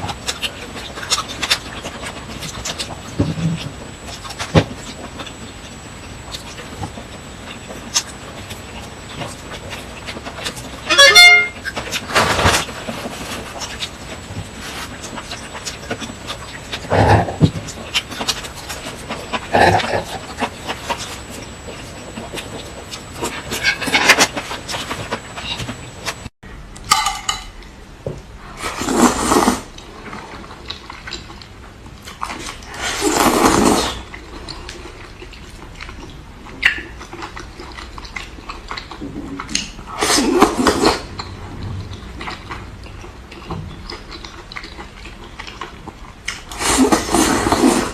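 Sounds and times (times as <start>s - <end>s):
close chewing and mouth noises: 0.0s - 10.9s, 11.6s - 26.2s, 28.6s - 47.9s.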